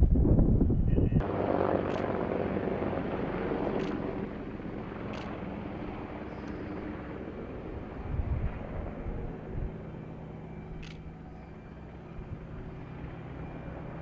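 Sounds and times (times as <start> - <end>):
helicopter engine and rotor drone: 1.0 - 14.0.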